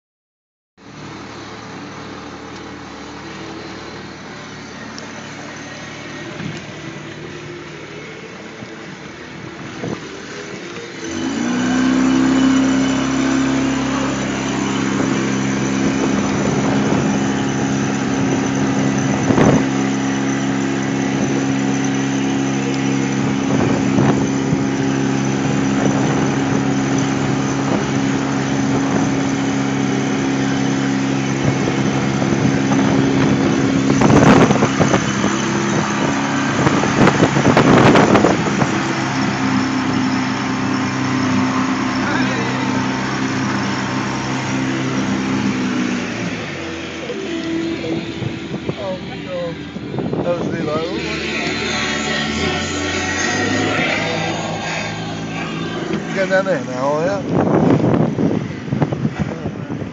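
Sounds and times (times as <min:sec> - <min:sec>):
outboard motor running: 0:00.8 - 0:59.9.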